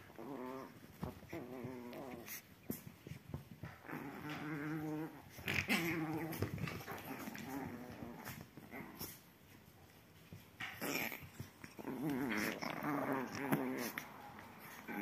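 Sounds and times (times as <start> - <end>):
puppies growling: 0.0 - 9.5, 10.4 - 15.0
paws scuffling on blanket: 0.0 - 15.0.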